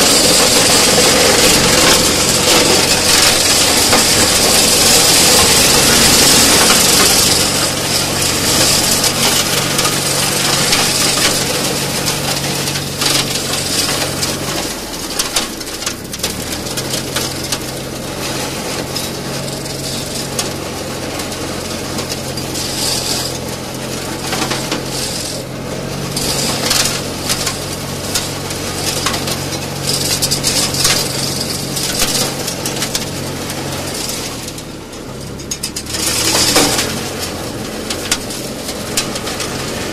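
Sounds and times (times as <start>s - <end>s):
flail mulcher shredding brush: 0.0s - 39.9s
tractor engine running: 0.0s - 39.9s.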